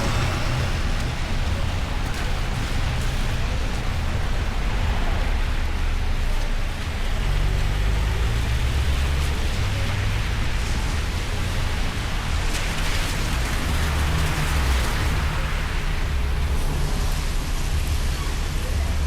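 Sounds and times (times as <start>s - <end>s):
rain hissing: 0.0s - 18.6s
street traffic rumble: 0.0s - 19.0s.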